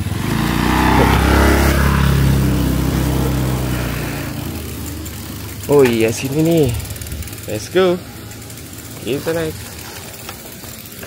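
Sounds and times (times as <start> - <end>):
motor scooter riding past: 0.0 - 11.0.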